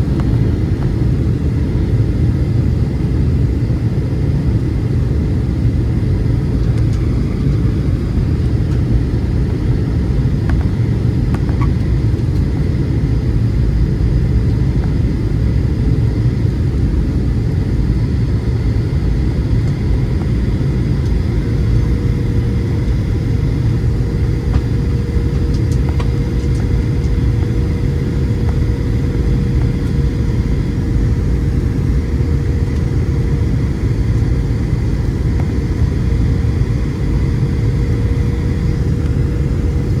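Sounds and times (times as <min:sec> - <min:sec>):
airplane cabin rumble: 0:00.0 - 0:40.0.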